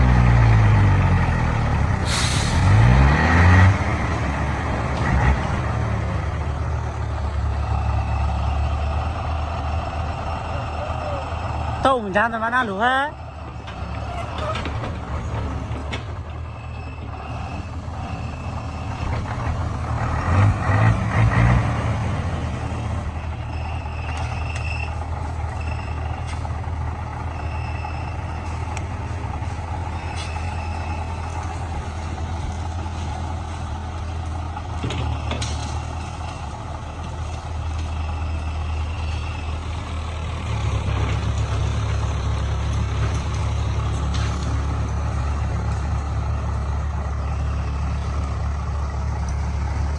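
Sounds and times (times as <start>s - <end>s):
heavy vehicle engine running: 0.0s - 49.9s.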